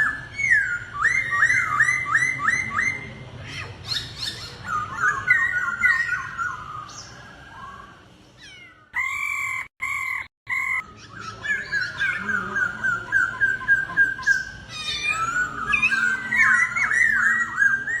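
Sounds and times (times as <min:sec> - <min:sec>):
bird whistling song: 0:00.0 - 0:03.2, 0:03.8 - 0:18.0.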